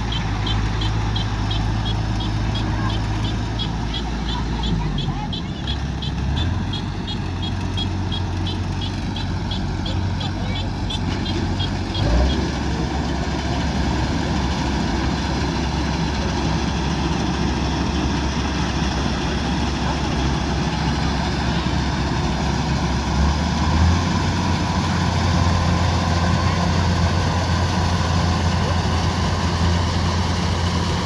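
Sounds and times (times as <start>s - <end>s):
combine harvester diesel engine: 0.0s - 31.0s.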